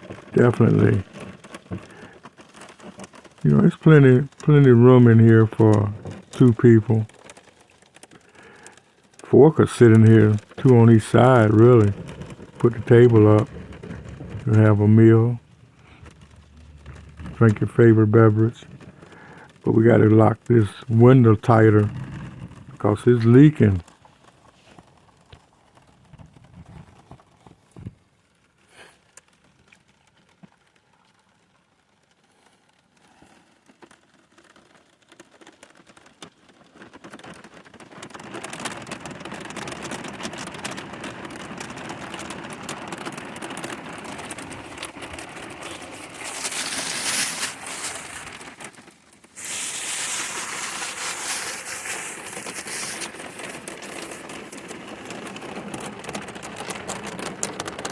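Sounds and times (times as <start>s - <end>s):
rain on a cabin roof: 0.0s - 57.9s.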